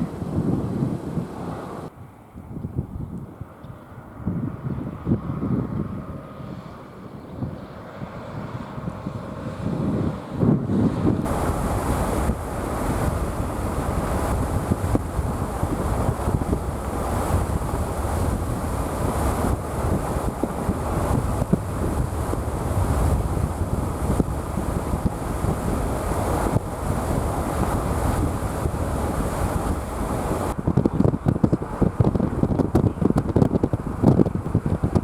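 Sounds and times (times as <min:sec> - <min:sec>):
strong wind gusts buffeting microphone: 0:00.0 - 0:35.0.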